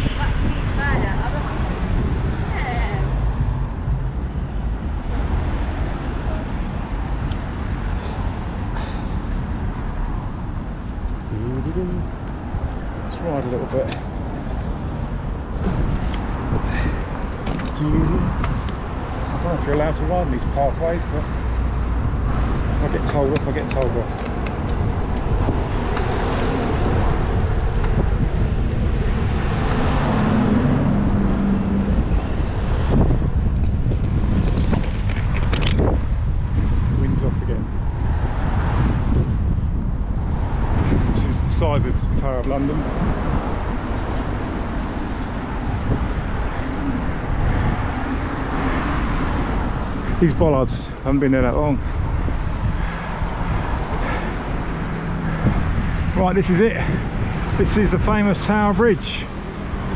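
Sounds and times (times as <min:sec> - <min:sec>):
road traffic passing: 0:00.0 - 0:59.9
wind buffeting microphone: 0:00.0 - 0:59.9.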